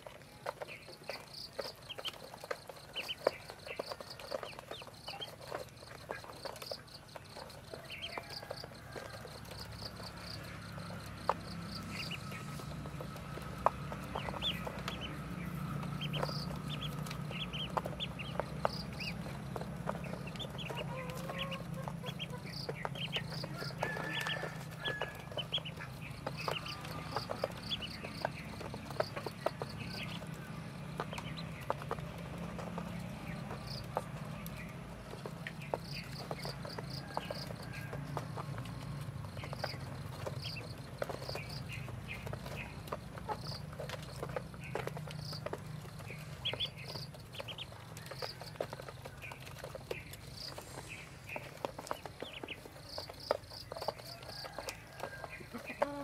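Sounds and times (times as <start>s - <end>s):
beaks pecking feed in a tray: 0.0s - 56.0s
ducklings peeping: 0.0s - 56.0s.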